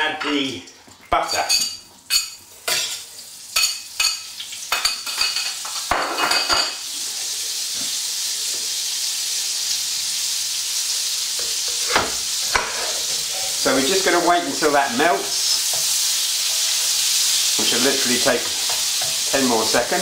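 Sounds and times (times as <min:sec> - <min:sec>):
butter sizzling in frying pan: 0:01.8 - 0:20.0.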